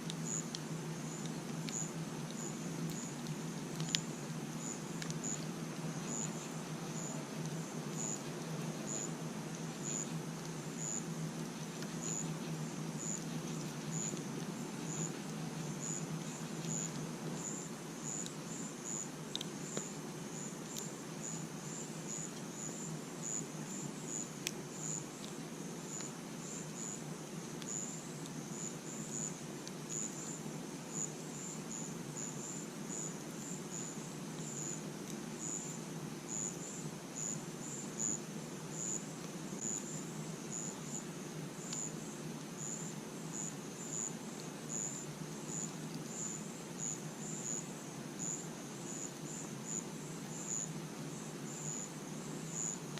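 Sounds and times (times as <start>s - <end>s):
campfire hissing and crackling: 0.0s - 52.9s
crickets chirping: 0.0s - 52.9s.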